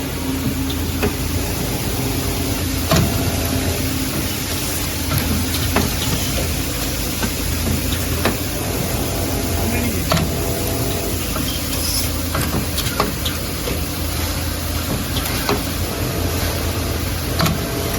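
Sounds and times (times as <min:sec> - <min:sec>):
machinery humming: 0:00.0 - 0:17.9.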